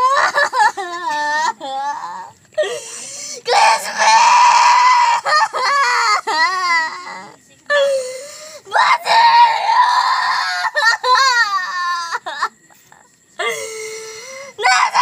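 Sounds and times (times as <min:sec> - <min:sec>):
woman wailing and sobbing: 0:00.0 - 0:12.7.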